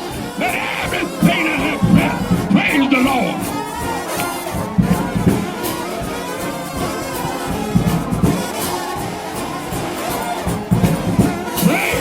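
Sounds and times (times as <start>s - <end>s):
brass band playing a hymn: 0.0s - 12.0s
driving beat: 0.0s - 12.0s.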